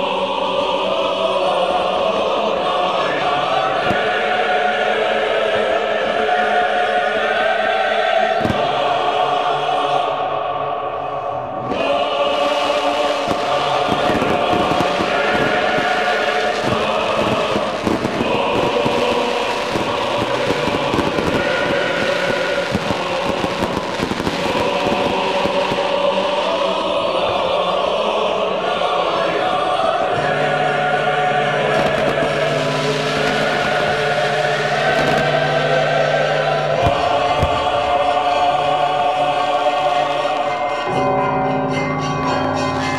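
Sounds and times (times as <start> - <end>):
choir singing held chords: 0.0 - 42.9.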